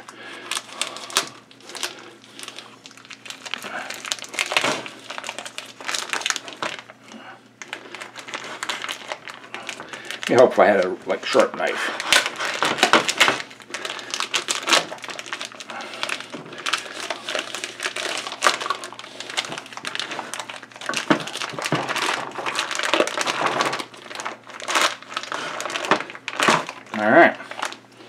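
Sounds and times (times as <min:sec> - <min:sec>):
plastic bag crinkling: 0:00.0 - 0:28.0.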